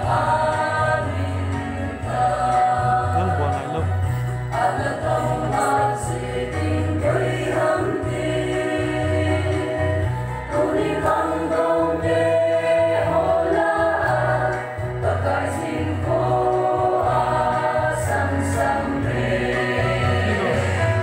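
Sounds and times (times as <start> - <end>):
women singing in unison: 0.0 - 3.3, 4.4 - 21.0.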